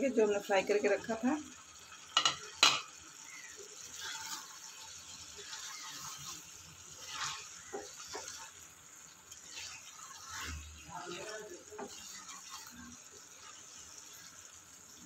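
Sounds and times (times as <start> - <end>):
spatula stirring curry in pan: 1.0 - 15.0.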